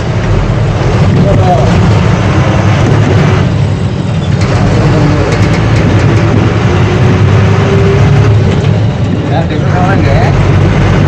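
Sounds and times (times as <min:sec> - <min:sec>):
lorry diesel engine rumbling: 0:00.0 - 0:11.0
road and cab noise: 0:00.0 - 0:11.0.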